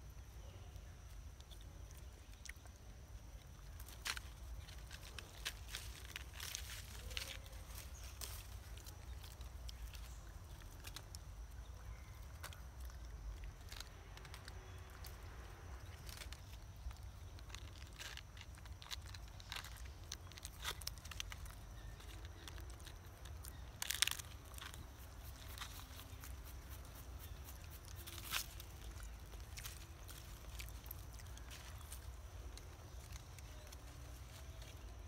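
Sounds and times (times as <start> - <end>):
rustle: 0.0 - 35.0
soft crackles and clicks: 0.1 - 35.0.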